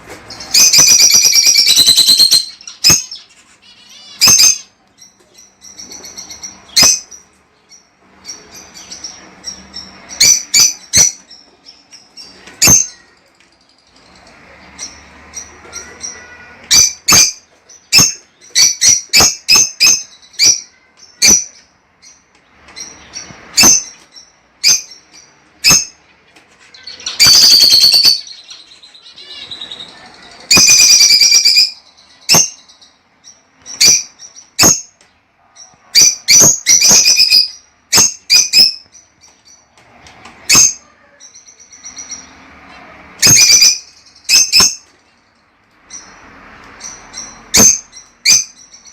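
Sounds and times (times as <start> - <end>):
birds chirping sharply: 0.0 - 48.9
birds screeching: 0.0 - 48.9.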